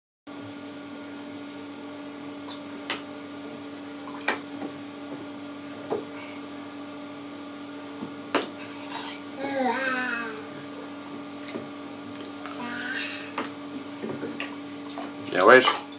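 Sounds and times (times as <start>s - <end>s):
steady low hum: 0.4s - 15.9s.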